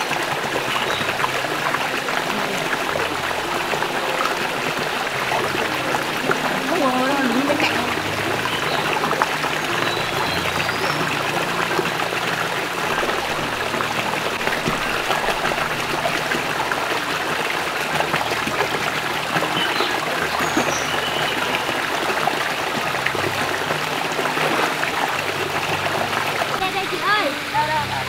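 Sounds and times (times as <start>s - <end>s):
stream water running: 0.0s - 28.0s.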